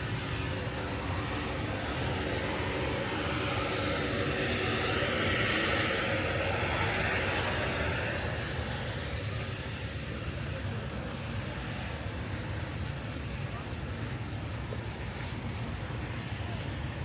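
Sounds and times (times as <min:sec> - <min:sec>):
jet airliner passing over: 0:00.0 - 0:17.0.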